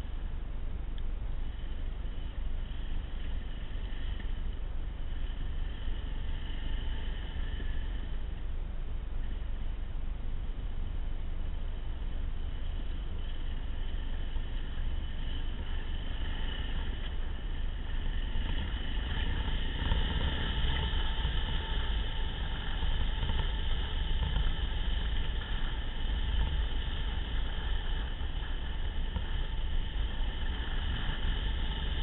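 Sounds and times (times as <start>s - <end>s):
wind rumble on microphone: 0.0s - 32.0s
motorcycle engine running: 1.2s - 32.0s.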